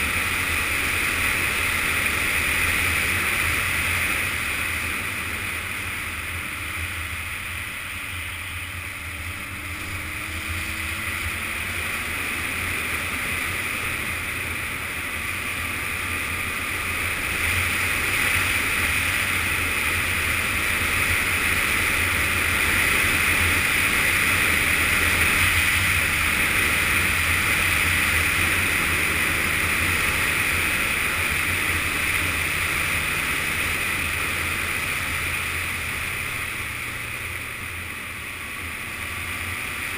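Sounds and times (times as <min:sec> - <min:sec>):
motorcycle engine running: 0:00.0 - 0:39.9
rush of riding wind: 0:00.0 - 0:39.9.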